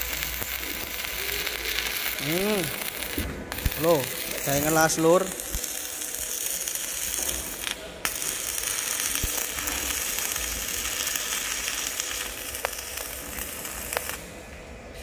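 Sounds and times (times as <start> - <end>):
welding arc crackling: 0.0 - 15.0.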